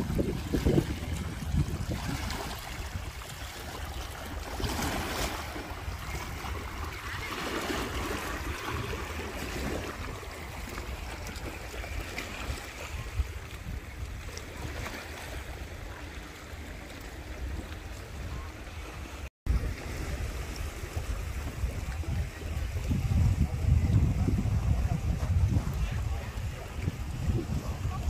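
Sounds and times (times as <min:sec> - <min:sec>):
waves lapping on rocky shore: 0:00.0 - 0:28.0
wind rumble on microphone: 0:00.0 - 0:28.0.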